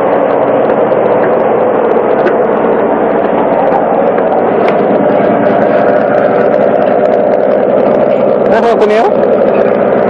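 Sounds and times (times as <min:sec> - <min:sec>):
ship engine and machinery drone: 0:00.0 - 0:10.0.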